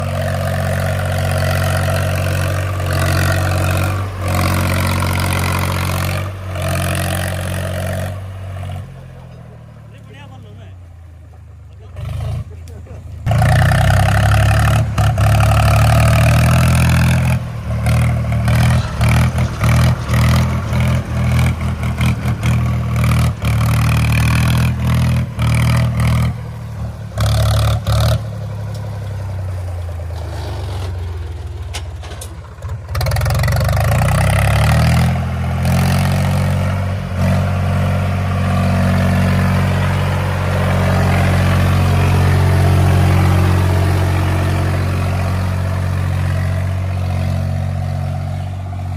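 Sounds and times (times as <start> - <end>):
heavy diesel engine under load: 0.0 - 48.9.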